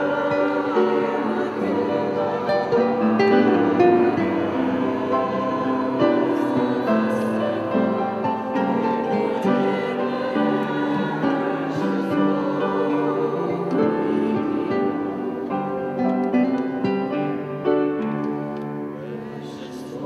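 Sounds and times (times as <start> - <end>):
instrumental accompaniment: 0.0 - 20.0
mixed choir singing held notes: 0.0 - 20.0.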